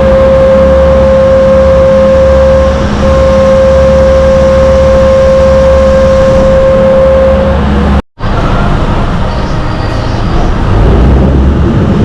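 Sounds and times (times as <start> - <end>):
steady whine: 0.0 - 12.0
vehicle travelling noise: 0.0 - 12.0.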